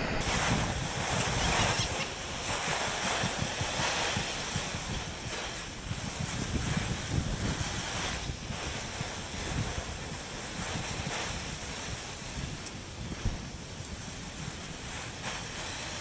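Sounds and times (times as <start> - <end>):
wind on microphone: 0.0 - 16.0
water hissing on hot metal: 0.2 - 16.0.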